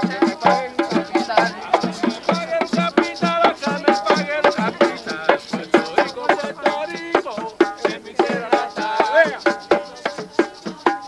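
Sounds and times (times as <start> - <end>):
frame drums in quick rhythm: 0.0 - 11.0
man singing: 0.0 - 11.0.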